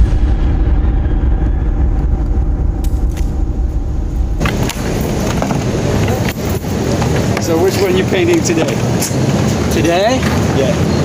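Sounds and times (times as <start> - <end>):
city street traffic rumble: 1.9 - 11.0.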